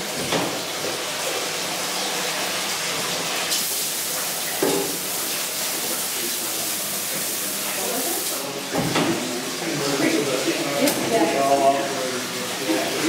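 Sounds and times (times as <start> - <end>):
liquid pouring and splashing: 0.0 - 13.0.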